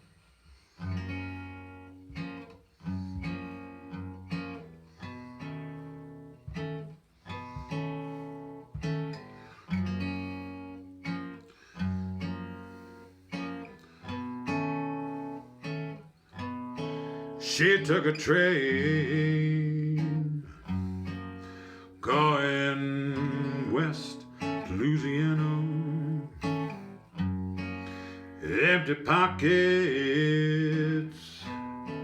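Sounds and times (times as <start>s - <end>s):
acoustic guitar chords: 0.6s - 32.0s.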